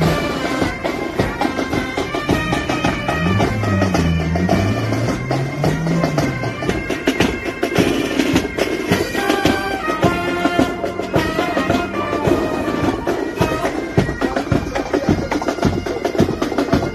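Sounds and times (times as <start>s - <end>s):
bagpipes playing melody: 0.0s - 16.9s
drum strokes: 0.0s - 16.9s.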